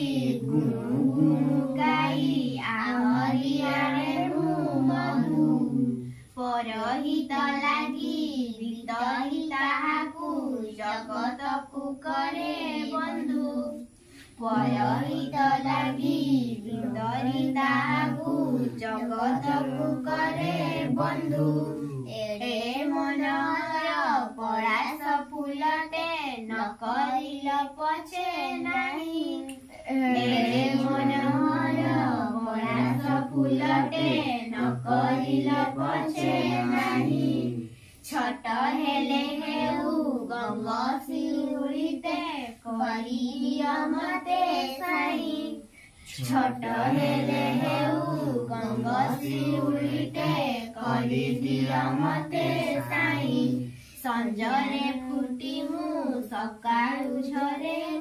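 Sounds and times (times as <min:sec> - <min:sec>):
girls singing unaccompanied: 0:00.0 - 0:58.0.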